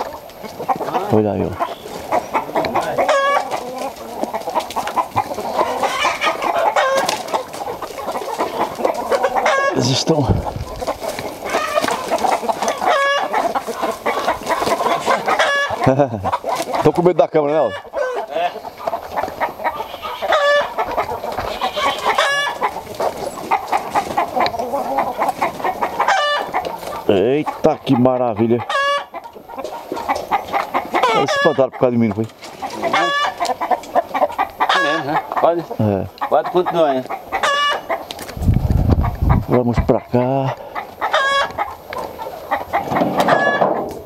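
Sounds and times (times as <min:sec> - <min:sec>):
chickens clucking: 0:00.0 - 0:44.0
loud chicken calls: 0:00.0 - 0:44.0.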